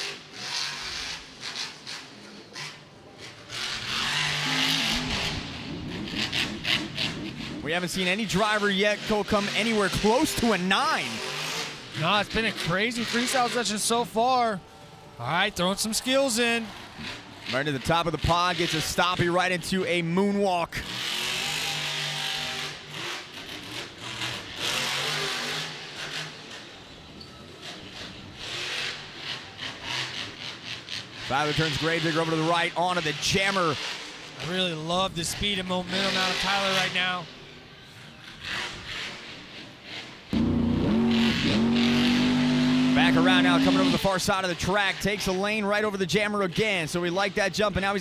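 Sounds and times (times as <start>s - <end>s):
monster truck engine revving: 0.0s - 37.3s, 38.3s - 47.0s.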